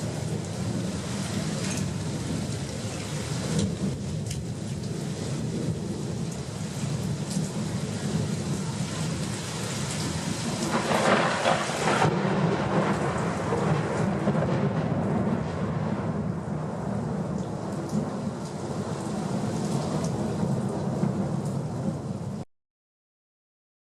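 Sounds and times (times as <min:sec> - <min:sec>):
steady rain falling: 0:00.0 - 0:22.4
thunder rumbling: 0:00.0 - 0:22.4.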